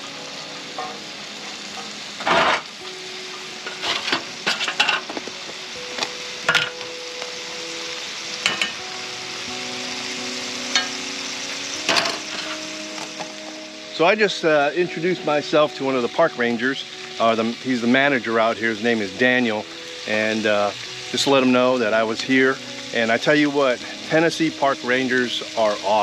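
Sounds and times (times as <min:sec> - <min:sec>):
steak sizzling in a skillet: 0:00.0 - 0:26.0.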